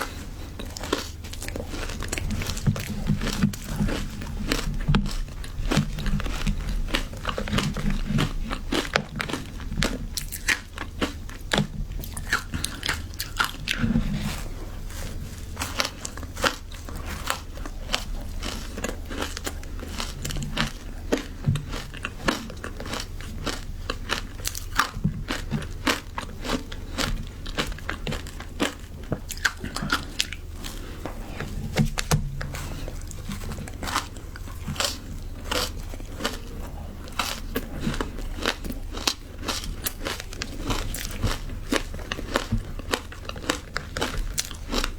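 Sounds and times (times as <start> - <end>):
ice crunching between teeth: 0.0 - 44.9.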